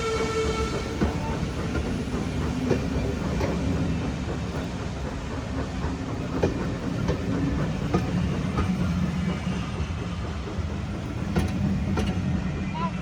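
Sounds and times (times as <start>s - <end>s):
train rumbling on rails: 0.0s - 13.0s
wheels clicking over rail joints: 0.6s - 12.7s.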